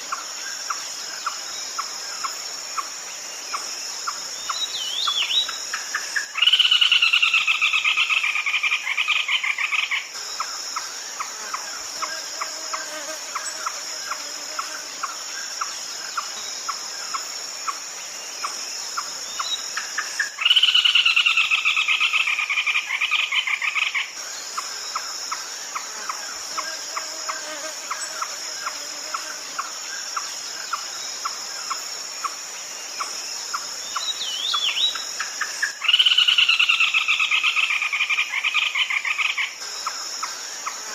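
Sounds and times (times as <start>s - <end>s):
high insect drone: 0.0s - 40.9s.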